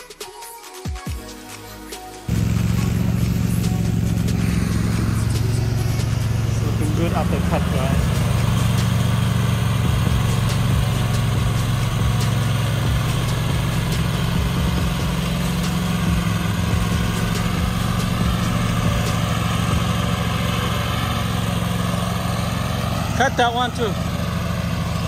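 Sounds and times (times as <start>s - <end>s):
riding lawn mower engine: 1.7s - 25.0s.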